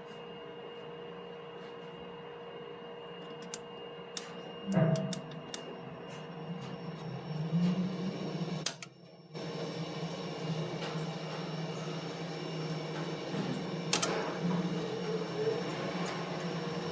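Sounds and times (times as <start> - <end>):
machinery humming: 0.0 - 16.9.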